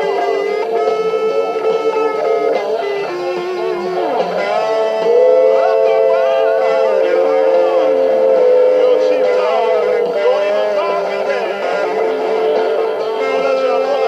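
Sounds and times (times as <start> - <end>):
electric guitar lead line: 0.0 - 14.0.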